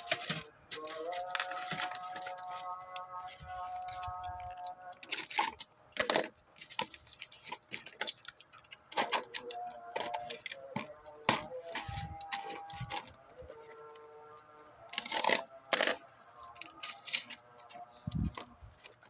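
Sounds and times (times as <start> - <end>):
plastic and cardboard rustling: 0.0 - 19.0.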